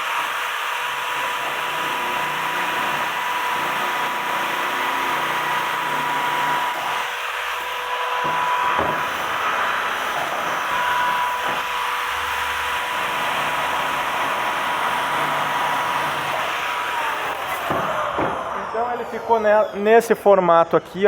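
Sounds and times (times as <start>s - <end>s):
harsh metal cutting noise: 0.0s - 21.0s
power tool motor whine: 0.0s - 21.0s.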